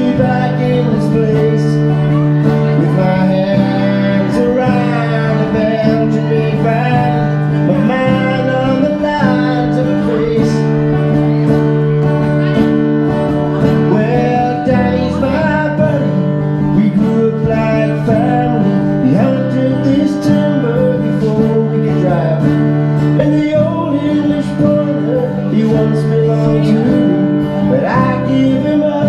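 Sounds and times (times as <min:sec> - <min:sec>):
person singing: 0:00.0 - 0:29.0
strummed acoustic guitar: 0:00.0 - 0:29.0.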